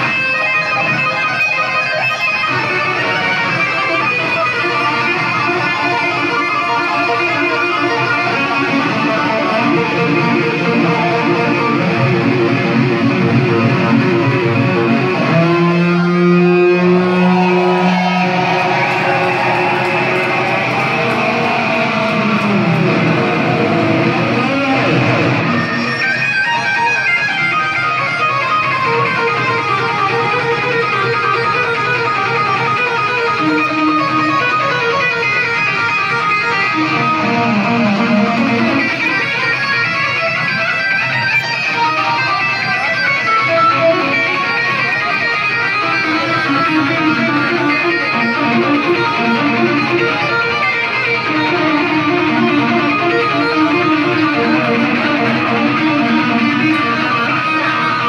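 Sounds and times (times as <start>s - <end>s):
electric guitar solo: 0.0s - 58.0s.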